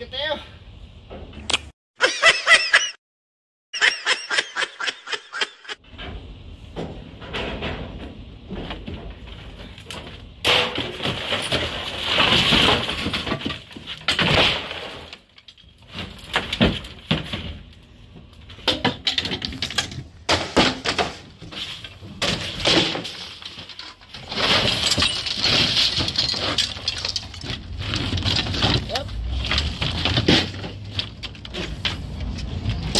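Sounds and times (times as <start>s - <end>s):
garbage clattering and crashing: 5.9s - 32.9s.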